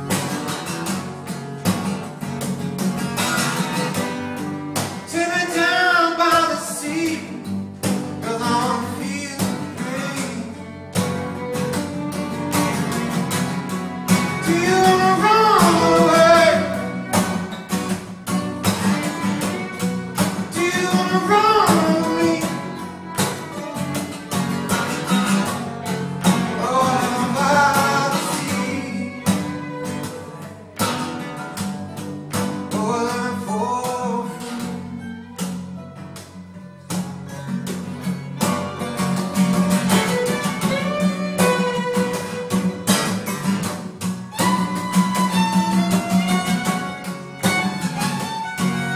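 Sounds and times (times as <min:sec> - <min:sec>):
strummed acoustic guitars: 0:00.0 - 0:48.9
fiddle melody: 0:08.0 - 0:36.8, 0:37.4 - 0:48.9.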